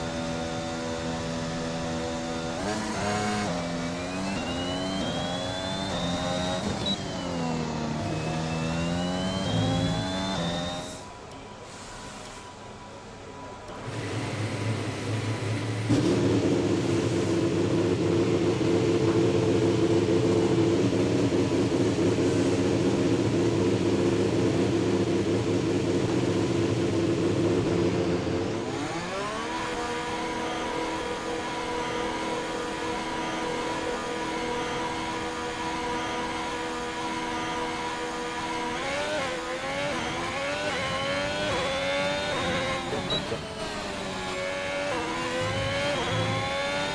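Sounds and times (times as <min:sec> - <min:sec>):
racing car engine idling and revving: 0:00.0 - 0:11.6, 0:12.4 - 0:46.9.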